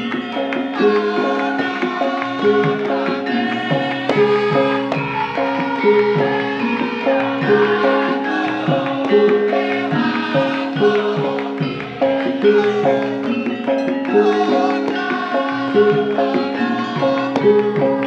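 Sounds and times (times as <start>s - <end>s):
drum strokes: 0.0s - 18.0s
metallophones ringing melody: 0.0s - 18.0s.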